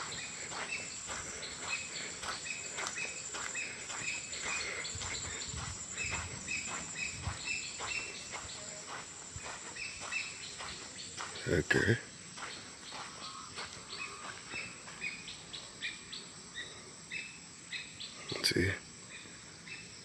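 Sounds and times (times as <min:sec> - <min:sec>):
bird chirps: 0:00.0 - 0:19.9
insects trilling: 0:00.0 - 0:20.0.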